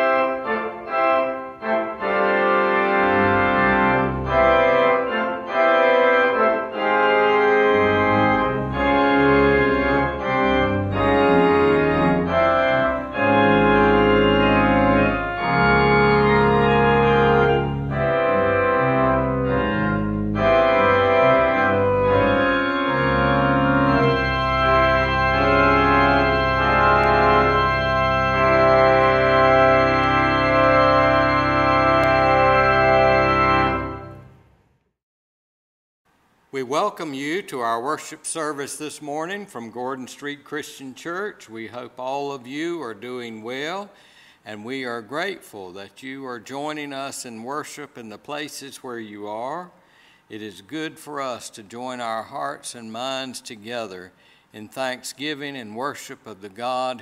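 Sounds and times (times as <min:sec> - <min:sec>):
church organ playing: 0:00.0 - 0:34.4, 0:36.8 - 0:49.7, 0:50.3 - 0:57.0.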